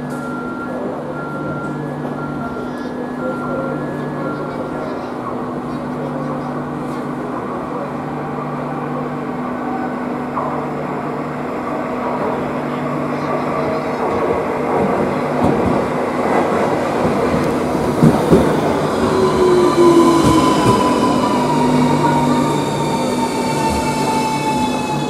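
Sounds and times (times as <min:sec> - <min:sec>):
electric train rumble: 0:00.0 - 0:25.0.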